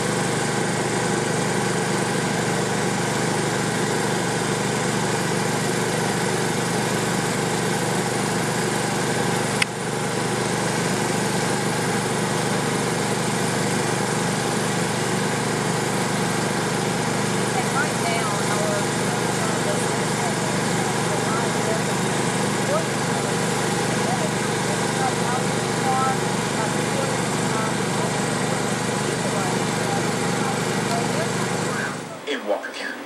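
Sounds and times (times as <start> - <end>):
generator engine hum: 0.0 - 33.0.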